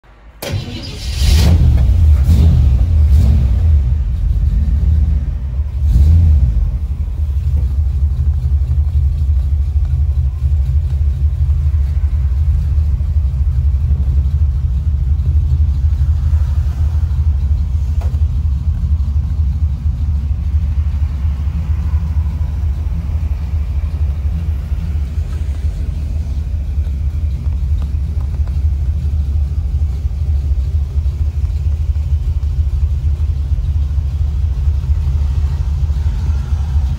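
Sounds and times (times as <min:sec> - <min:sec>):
truck engine revving and idling: 0:00.1 - 0:36.9.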